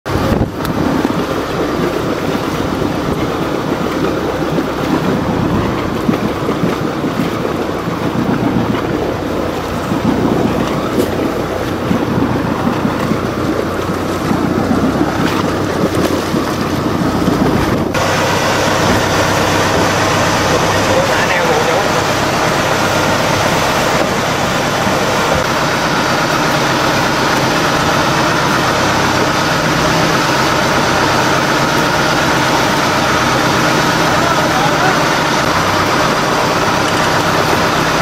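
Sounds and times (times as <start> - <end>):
boat engine running: 0.0 - 38.0
wind buffeting microphone: 0.0 - 38.0
water rushing past: 0.1 - 38.0.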